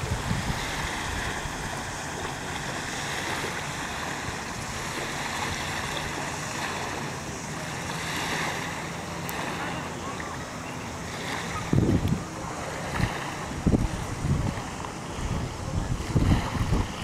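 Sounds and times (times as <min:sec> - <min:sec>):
small waves lapping at shore: 0:00.0 - 0:17.0
wind: 0:00.0 - 0:17.0.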